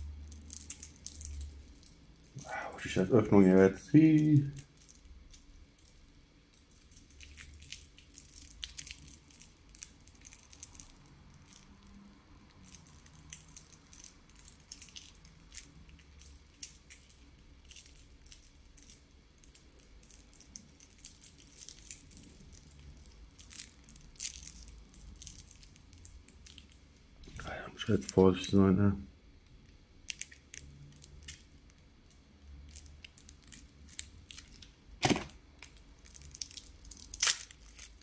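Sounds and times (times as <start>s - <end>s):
plastic packaging crinkling: 0.1s - 3.2s, 4.1s - 26.8s, 30.1s - 31.8s, 32.6s - 38.0s.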